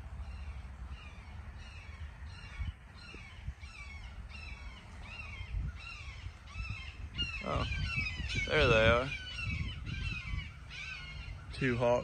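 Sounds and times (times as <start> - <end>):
hawks calling: 0.0 - 12.0.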